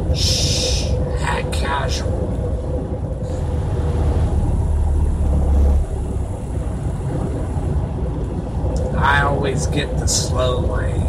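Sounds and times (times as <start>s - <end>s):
road noise: 0.0s - 11.0s
truck diesel engine rumble: 0.0s - 11.0s.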